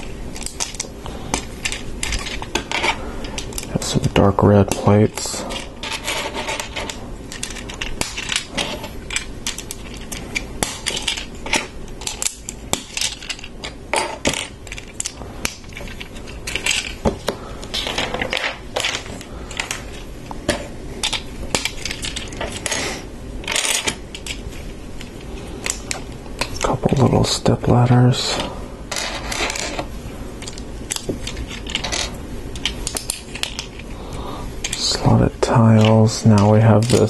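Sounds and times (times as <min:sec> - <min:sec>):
rustles and scrapes: 0:00.0 - 0:27.3, 0:28.2 - 0:37.0.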